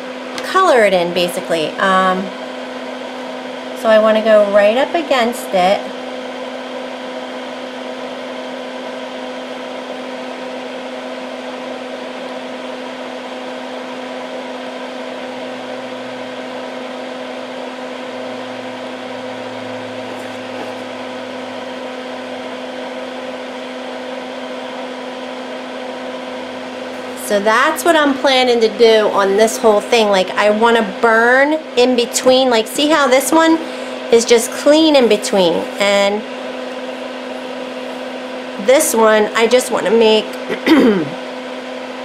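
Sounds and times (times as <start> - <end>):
fume extractor fan humming: 0.0 - 42.0.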